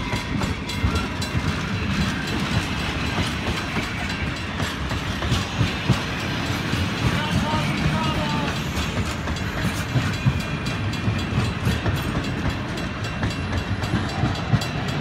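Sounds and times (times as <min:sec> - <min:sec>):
train wheels rumbling on rails: 0:00.0 - 0:15.0
wheels clacking on rail joints: 0:00.0 - 0:15.0.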